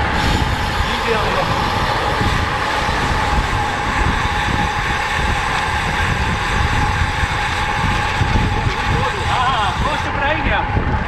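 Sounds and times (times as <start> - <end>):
bicycle road noise: 0.0 - 11.0
rushing wind: 0.0 - 11.0
wind buffeting microphone: 0.0 - 11.0.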